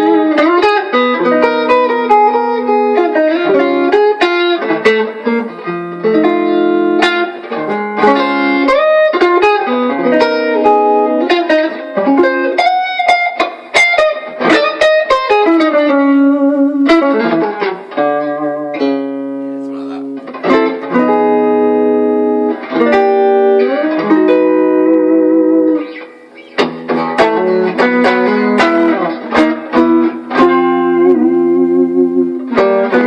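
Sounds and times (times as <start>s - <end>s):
electric guitar notes and chords: 0.0s - 33.0s.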